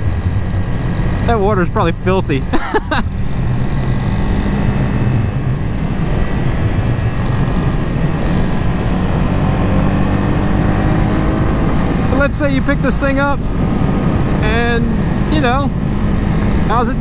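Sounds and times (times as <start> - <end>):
motorcycle engine running: 0.0 - 17.0
wind noise: 2.4 - 17.0.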